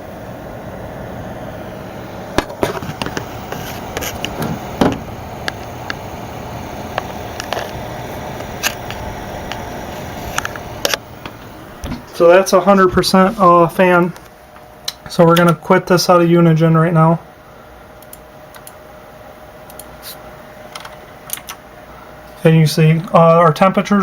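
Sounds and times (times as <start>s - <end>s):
cooling fans running: 0.0s - 24.0s.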